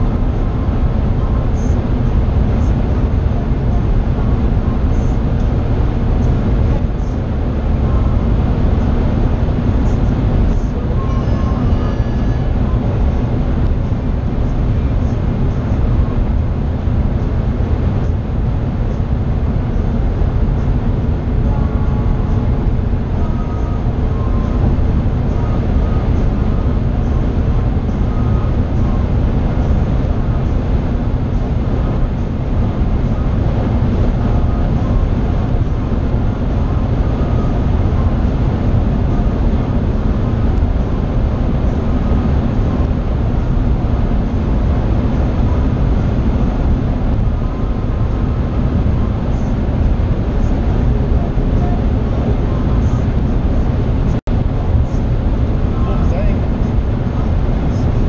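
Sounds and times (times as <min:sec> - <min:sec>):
car engine running: 0:00.0 - 0:58.0
road and tyre noise in car cabin: 0:00.0 - 0:58.0
wind noise: 0:00.0 - 0:58.0.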